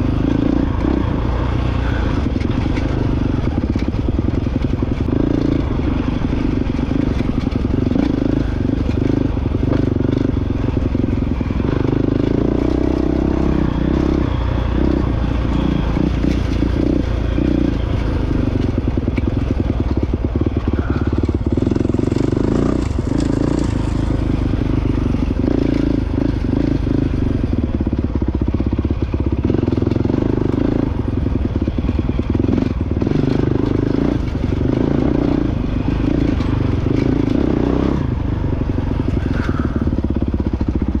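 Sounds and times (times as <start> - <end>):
dirt bike engine: 0.0 - 41.0.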